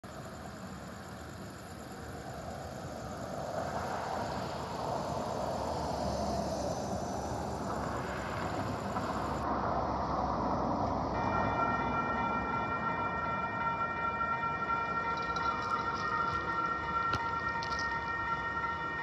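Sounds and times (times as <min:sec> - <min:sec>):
passing road traffic: 0:00.3 - 0:19.0.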